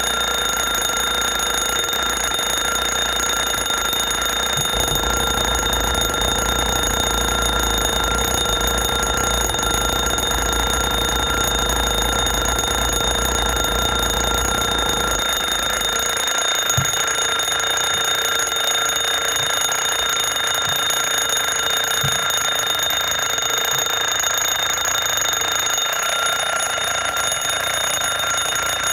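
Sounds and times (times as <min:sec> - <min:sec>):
alarm ringing: 0:00.0 - 0:28.9.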